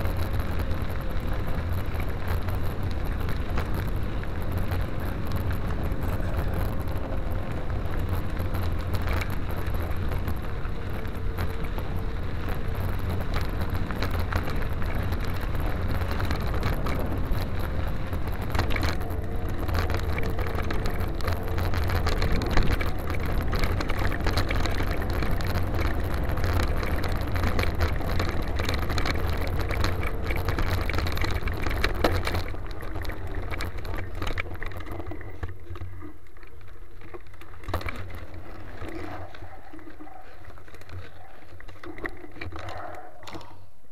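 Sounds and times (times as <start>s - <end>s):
tyres crunching on gravel: 0.0s - 43.1s
bike clatter: 0.0s - 43.7s
bike rattling over bumps: 0.0s - 43.7s
wind on microphone: 0.0s - 43.7s.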